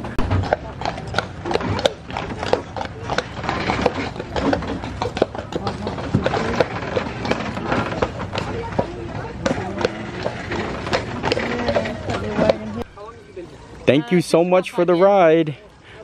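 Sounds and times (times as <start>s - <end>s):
wooden wagon rattling: 0.0s - 12.8s
hooves clopping on concrete: 0.0s - 13.0s.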